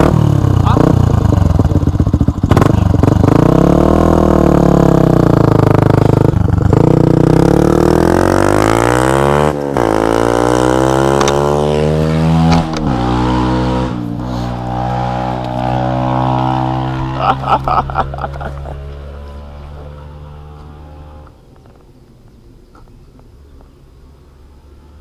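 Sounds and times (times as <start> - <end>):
motorcycle engine revving: 0.0 - 21.4.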